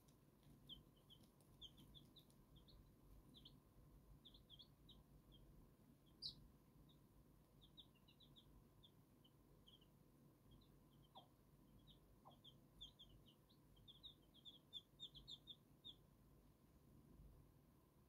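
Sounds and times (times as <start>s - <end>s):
chicks peeping: 0.0s - 16.1s.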